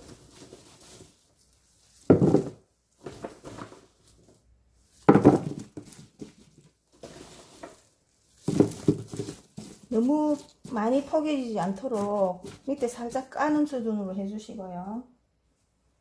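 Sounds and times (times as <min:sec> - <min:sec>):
garlic cloves rattling: 0:00.0 - 0:13.3.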